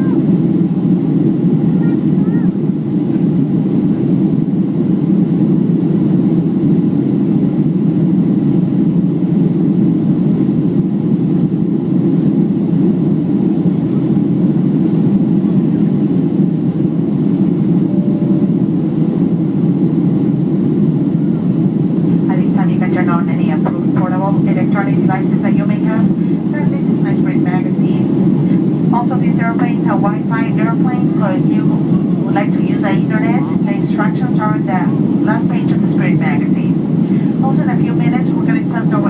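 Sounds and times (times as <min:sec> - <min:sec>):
airliner cabin engine rush: 0:00.0 - 0:39.0.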